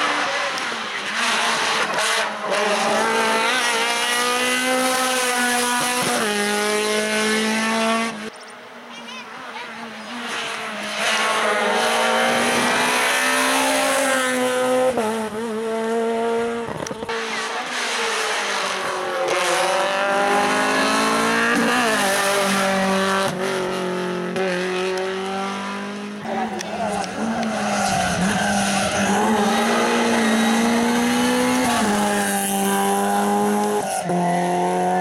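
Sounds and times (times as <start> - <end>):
rally car engine accelerating: 0.0 - 8.3, 10.0 - 35.0.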